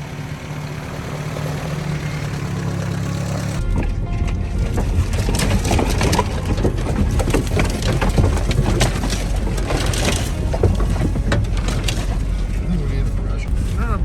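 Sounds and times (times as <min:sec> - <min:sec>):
low engine drone: 0:00.0 - 0:14.0
tyres crunching over snow: 0:00.0 - 0:14.0.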